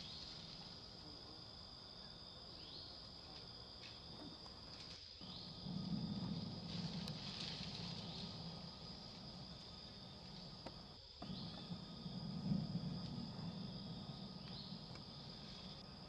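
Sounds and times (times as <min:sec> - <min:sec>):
high-pitched insect trill: 0:00.0 - 0:16.0
low background hum: 0:00.0 - 0:16.0.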